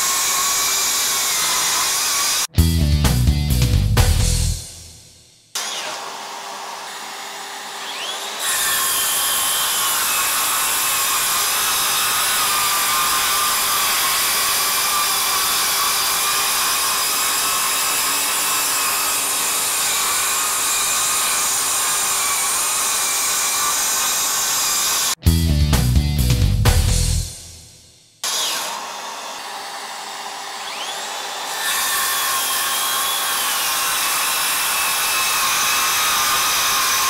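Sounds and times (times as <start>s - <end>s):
saw cutting through boards: 0.0s - 2.5s, 5.5s - 25.2s, 28.2s - 37.0s.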